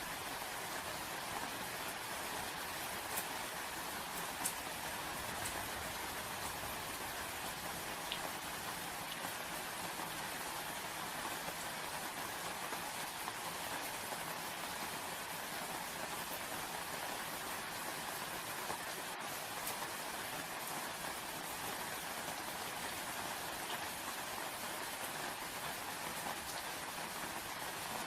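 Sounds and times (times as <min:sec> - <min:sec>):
individual raindrops: 0:00.0 - 0:28.0
steady rain falling: 0:00.0 - 0:28.0.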